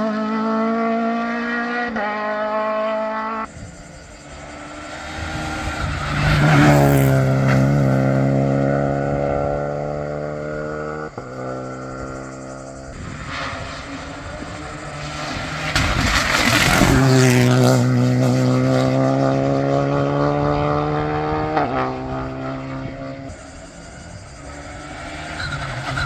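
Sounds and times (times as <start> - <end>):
rally car engine at full throttle: 0.0 - 26.0
car passing by: 0.4 - 26.0.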